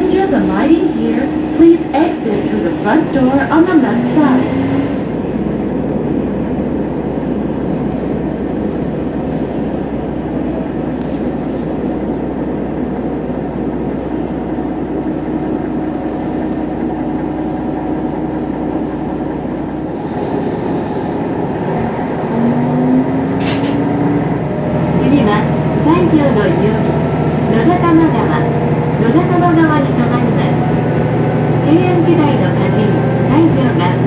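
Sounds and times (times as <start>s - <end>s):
railcar engine and wheels rumbling: 0.0s - 34.0s.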